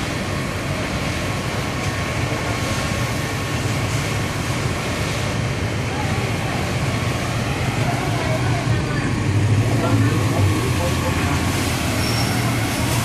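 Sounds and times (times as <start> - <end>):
car fire burning: 0.0 - 13.0
fire engine diesel and pump: 0.0 - 13.0.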